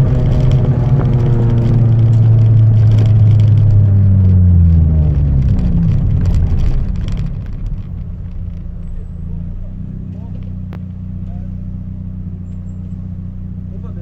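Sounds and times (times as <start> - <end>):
loud car engine revving: 0.0 - 14.0.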